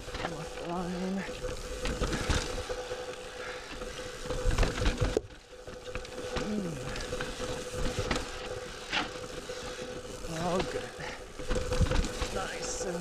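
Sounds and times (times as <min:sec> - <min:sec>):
bike knocks and rattles: 0:00.0 - 0:02.8, 0:03.7 - 0:13.0
bike tyres crunching over rock: 0:00.0 - 0:13.0.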